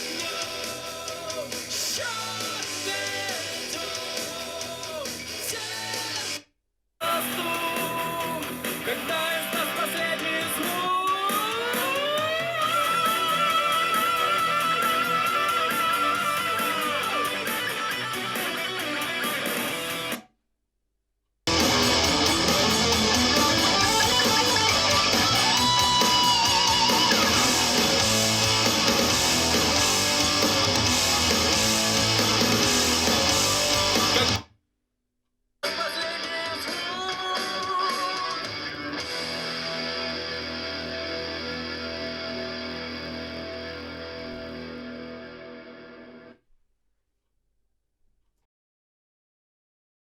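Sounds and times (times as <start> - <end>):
rock music from a speaker: 0.0 - 6.4, 7.0 - 20.2, 21.5 - 34.5, 35.6 - 46.3.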